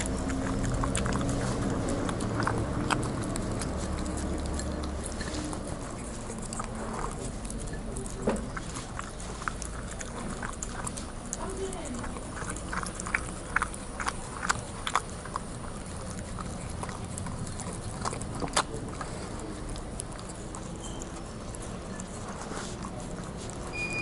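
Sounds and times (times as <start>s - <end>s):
dog licking and chewing food: 0.0s - 24.0s.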